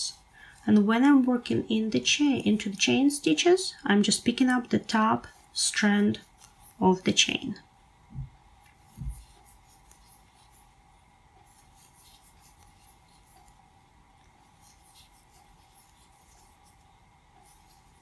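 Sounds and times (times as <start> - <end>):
yarn rustling over crochet hook: 0.0 - 7.4, 8.6 - 18.0
faint steady hum: 0.0 - 18.0.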